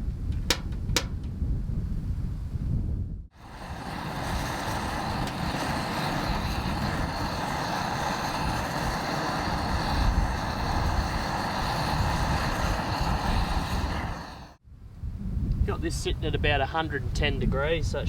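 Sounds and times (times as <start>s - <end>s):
strong gusty wind on microphone: 0.0s - 18.0s.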